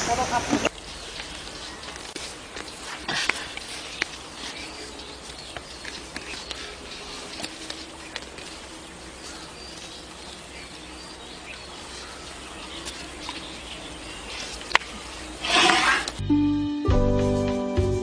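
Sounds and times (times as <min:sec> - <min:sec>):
insect calls: 0:00.0 - 0:16.2
steady background hiss: 0:00.0 - 0:16.2.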